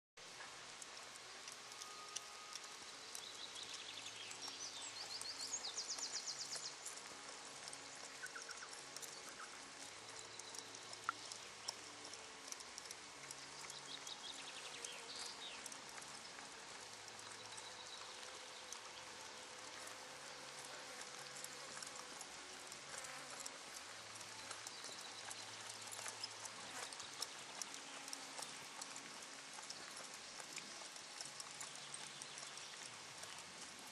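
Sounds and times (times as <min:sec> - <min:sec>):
outdoor hiss: 0:00.2 - 0:33.9.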